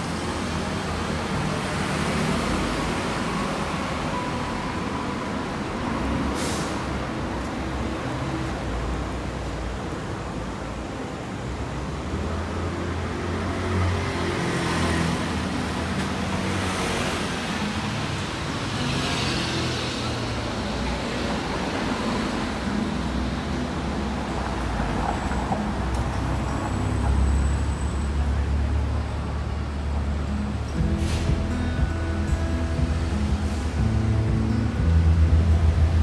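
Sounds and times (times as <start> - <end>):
traffic engines humming: 0.0 - 36.0.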